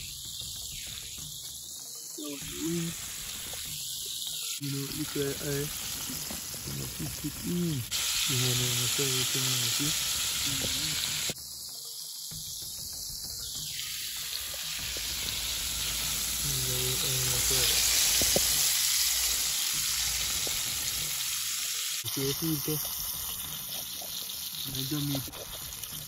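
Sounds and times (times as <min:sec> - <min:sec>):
chicken frying in hot oil: 0:00.0 - 0:26.0.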